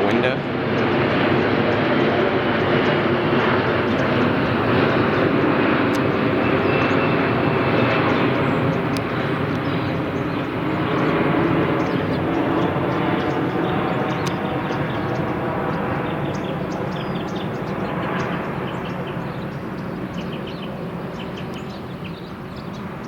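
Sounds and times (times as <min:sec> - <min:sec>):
aircraft engine drone: 0:00.0 - 0:23.0.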